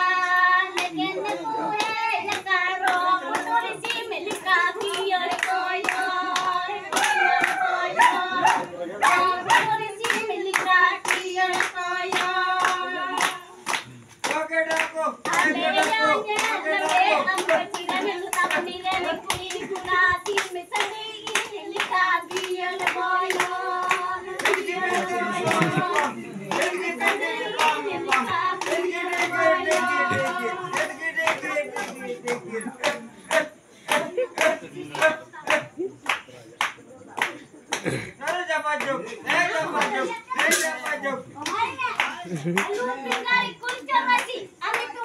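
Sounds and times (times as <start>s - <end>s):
women singing together: 0.0s - 35.8s, 38.2s - 45.0s
hands clapping: 0.0s - 45.0s.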